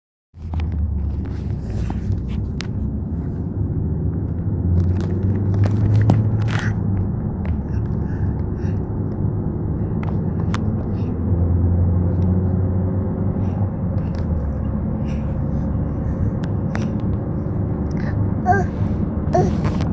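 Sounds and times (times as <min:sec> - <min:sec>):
car road and engine rumble: 0:00.4 - 0:19.9.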